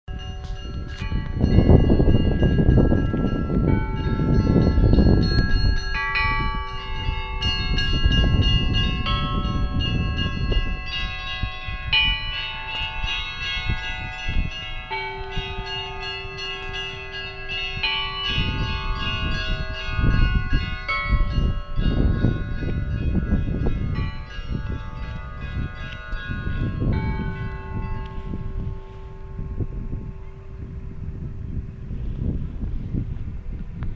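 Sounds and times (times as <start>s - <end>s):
church bells ringing: 0.1s - 33.6s
deep bell: 0.1s - 33.9s
low rumble: 0.1s - 33.9s.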